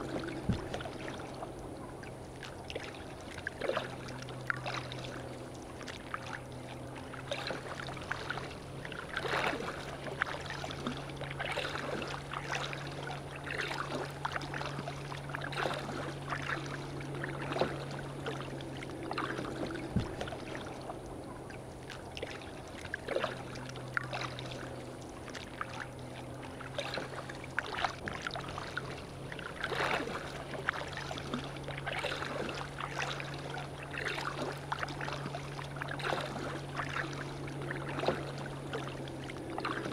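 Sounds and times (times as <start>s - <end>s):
lapping water: 0.0s - 39.9s
paddle splashing water: 0.0s - 39.9s
steady low hum: 0.0s - 39.9s.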